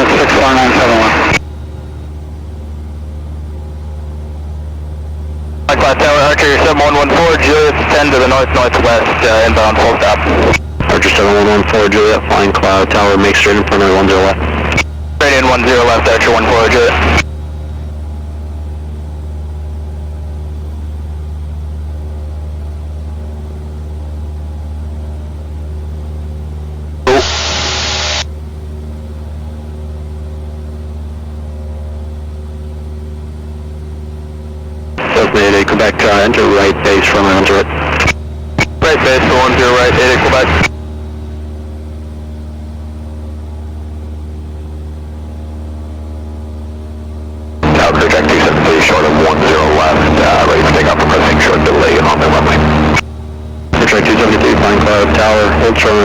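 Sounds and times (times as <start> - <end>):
airplane engine droning in flight: 0.0 - 56.0.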